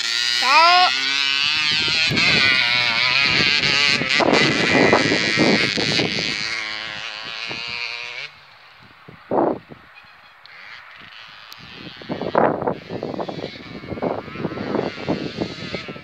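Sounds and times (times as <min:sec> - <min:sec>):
dirt bike engine revving: 0:00.0 - 0:08.5, 0:10.4 - 0:16.0.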